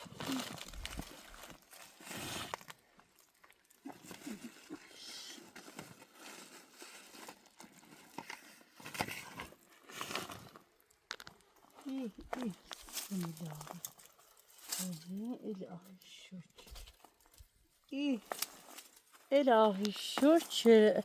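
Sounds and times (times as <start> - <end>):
rustling and crackling: 0.0 - 21.0.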